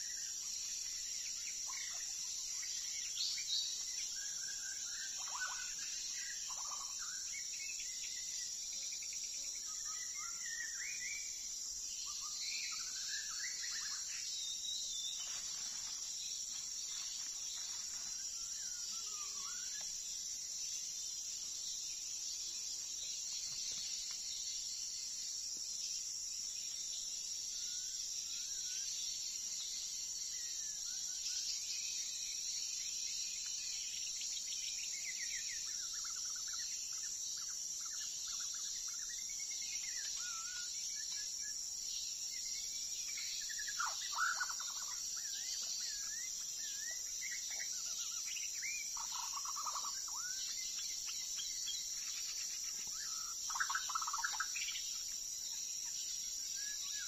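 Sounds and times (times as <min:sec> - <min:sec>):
high insect drone: 0:00.0 - 0:57.0
songbird singing: 0:00.0 - 0:57.0.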